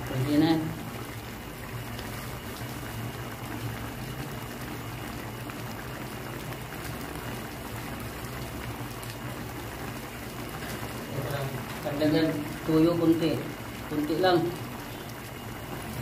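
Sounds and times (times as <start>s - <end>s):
broth bubbling in a pan: 0.0s - 16.0s.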